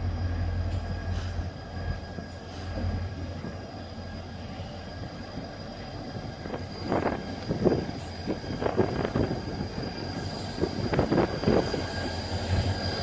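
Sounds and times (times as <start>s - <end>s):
locomotive engine humming: 0.0s - 13.0s.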